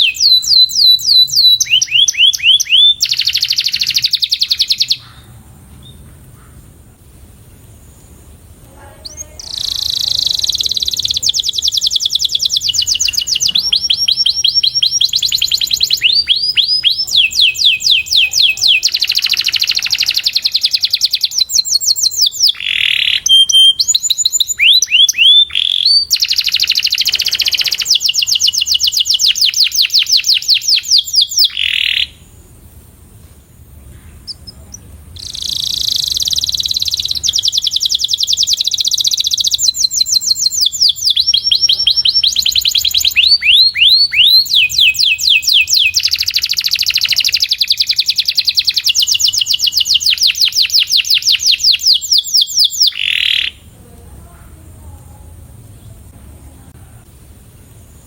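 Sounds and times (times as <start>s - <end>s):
canary singing fast trills: 0.0s - 6.1s, 7.6s - 32.6s, 34.1s - 53.8s.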